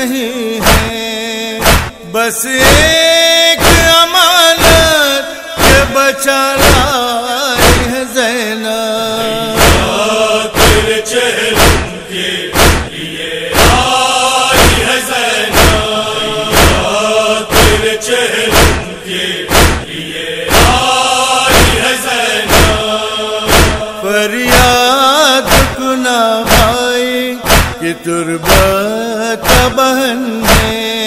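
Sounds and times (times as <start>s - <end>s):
chorus chanting: 0.0s - 31.0s.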